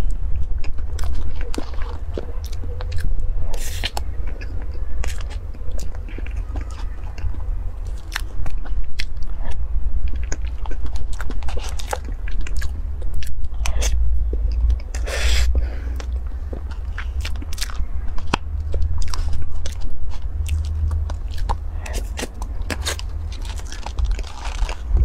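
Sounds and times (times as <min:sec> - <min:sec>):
chewing and wet mouth smacks: 0:00.0 - 0:25.0.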